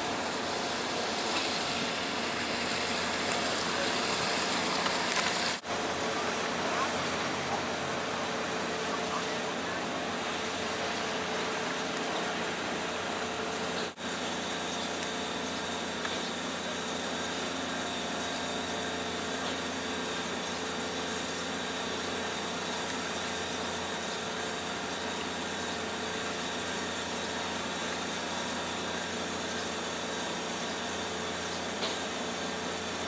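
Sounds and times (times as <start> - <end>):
machinery drone: 0.0 - 33.0.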